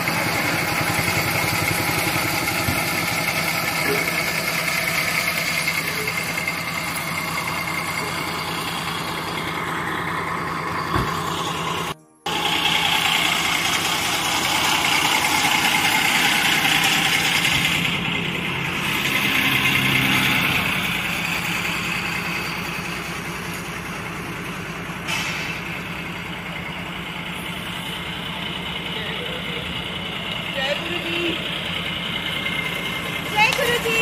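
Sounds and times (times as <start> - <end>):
bus engine running: 0.0 - 34.0.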